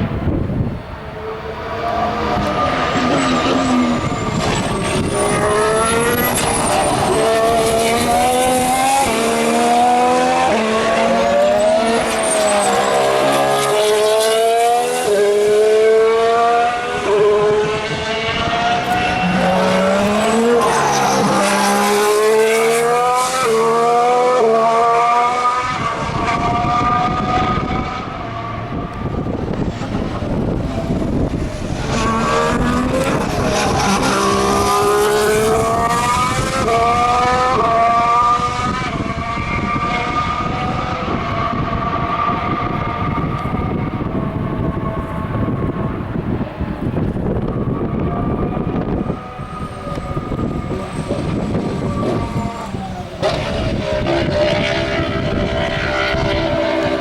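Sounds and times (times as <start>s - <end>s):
general track noise: 0.0s - 57.0s
racing car engine accelerating: 0.0s - 57.0s.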